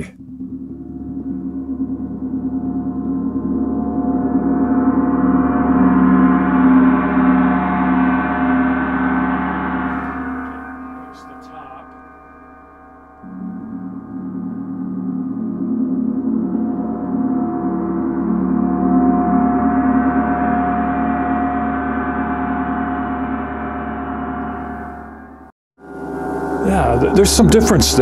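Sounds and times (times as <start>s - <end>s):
gong roll ringing shimmer: 0.4s - 28.0s.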